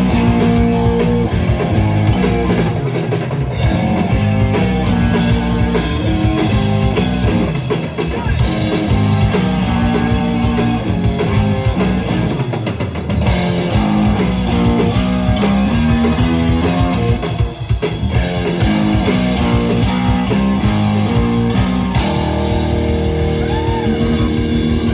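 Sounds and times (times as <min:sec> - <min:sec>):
bass guitar: 0:00.0 - 0:24.9
drum kit beat: 0:00.0 - 0:24.9
electric guitar riffing: 0:00.0 - 0:24.9.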